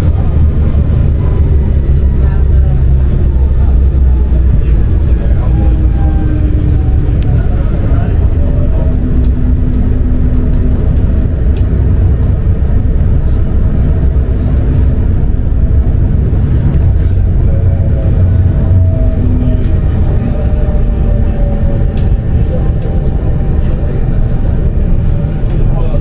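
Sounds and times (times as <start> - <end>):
faint hum: 0.0 - 26.0
tram rumbling along tracks: 0.0 - 26.0.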